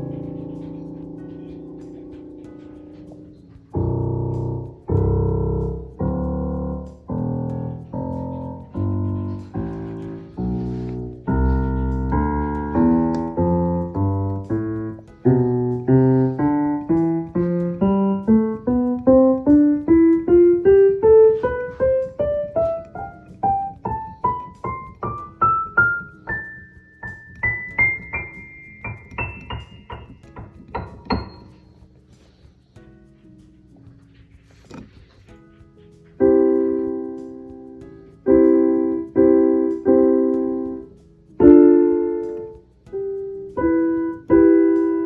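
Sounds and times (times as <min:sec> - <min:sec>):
digital piano playing: 0:00.0 - 0:33.7, 0:35.6 - 0:45.0.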